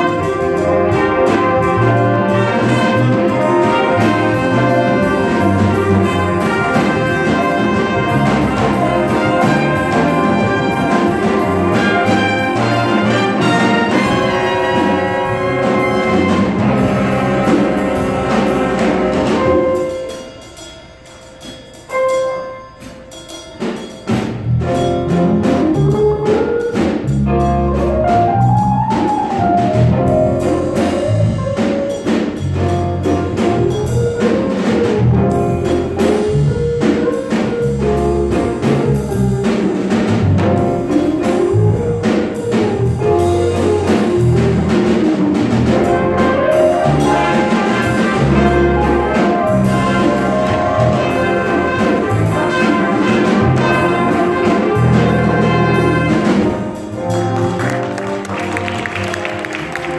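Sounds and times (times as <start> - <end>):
bass line: 0.0 - 20.2, 24.2 - 59.9
drums: 0.0 - 59.9
jazz big band playing: 0.0 - 59.9.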